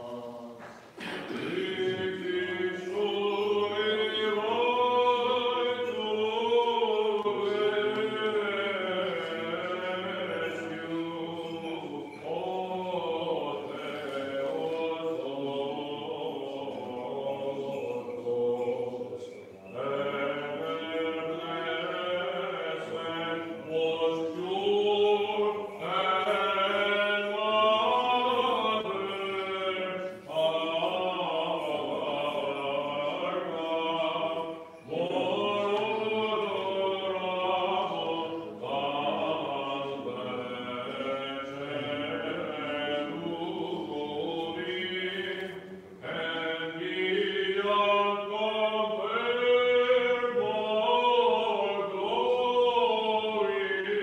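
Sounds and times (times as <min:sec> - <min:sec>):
unaccompanied chant: 0:00.0 - 0:54.0.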